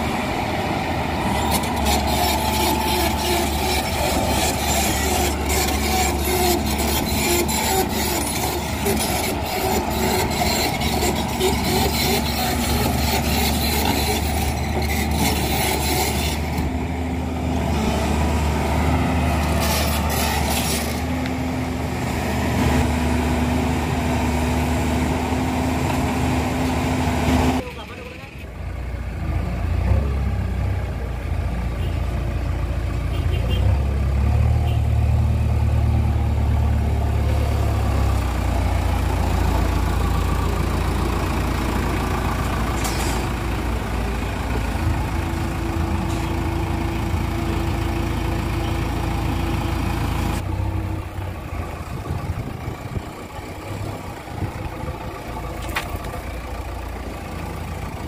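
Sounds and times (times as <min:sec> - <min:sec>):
backhoe loader diesel engine: 0:00.0 - 0:58.0
excavator engine: 0:00.0 - 0:58.0.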